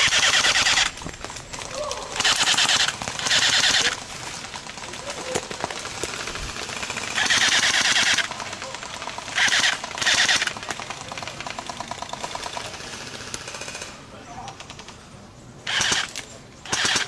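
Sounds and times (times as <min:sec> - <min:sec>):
airsoft rifles firing bursts: 0:00.0 - 0:01.0, 0:02.1 - 0:14.9, 0:15.6 - 0:17.0
faint rapid firing: 0:02.2 - 0:14.9, 0:15.7 - 0:17.0.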